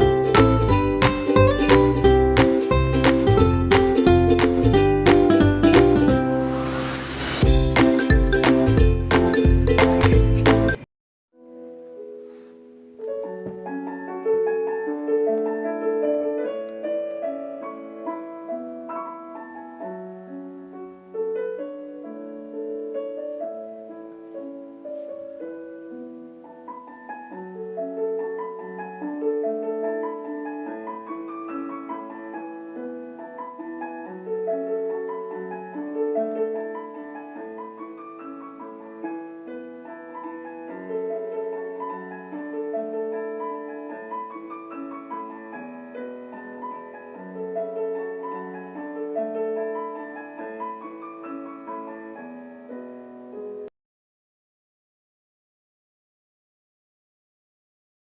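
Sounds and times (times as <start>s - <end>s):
gentle piano music: 0.0s - 53.7s.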